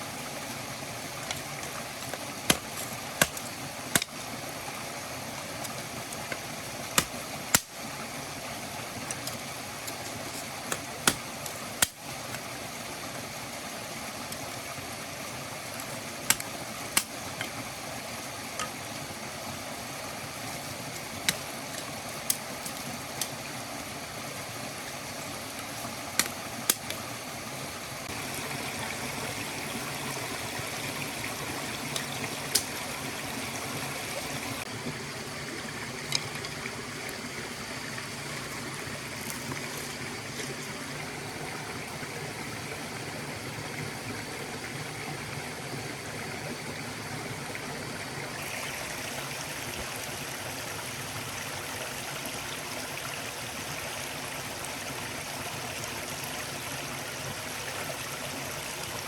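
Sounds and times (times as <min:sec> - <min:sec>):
stream gurgling: 0:00.0 - 0:59.0.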